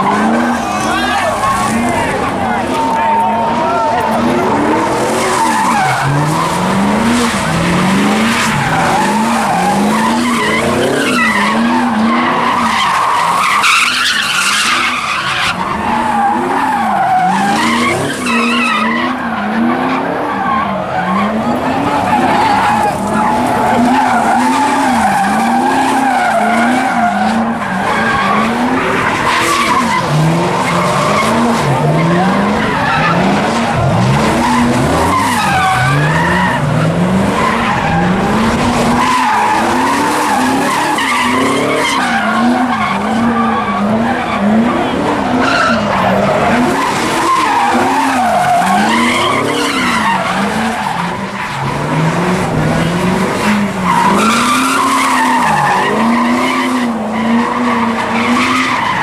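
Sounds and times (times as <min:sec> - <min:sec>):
car engine revving: 0:00.0 - 0:59.0
tire squeal: 0:00.0 - 0:59.0.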